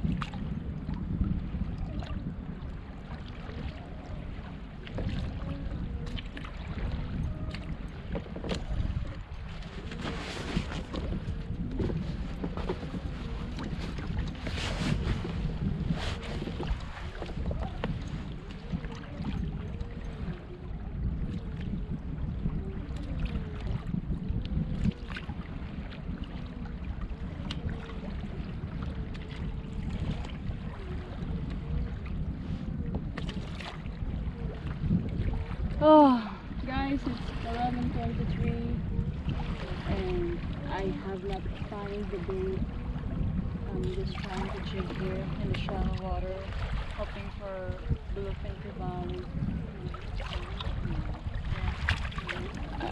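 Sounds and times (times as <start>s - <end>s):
water lapping against hull: 0.0s - 52.9s
wind buffeting microphone: 0.0s - 52.9s.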